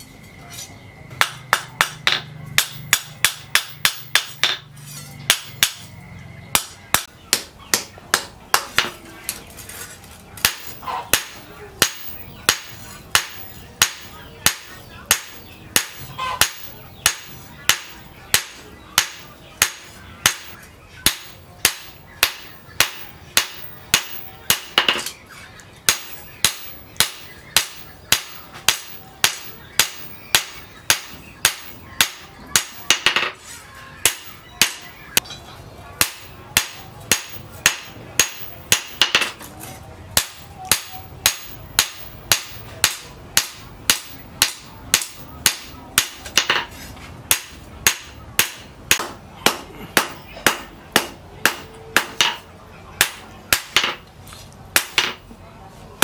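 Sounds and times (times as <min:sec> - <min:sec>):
hammer striking steel on anvil: 0:01.1 - 0:09.0, 0:10.4 - 0:25.2, 0:25.8 - 0:33.4, 0:34.0 - 0:35.2, 0:36.0 - 0:39.4, 0:40.2 - 0:54.0, 0:54.8 - 0:55.3.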